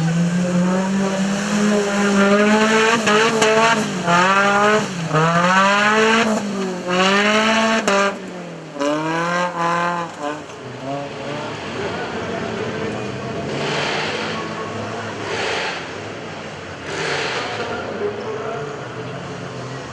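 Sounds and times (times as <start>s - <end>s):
engine revving hard: 0.0s - 18.0s.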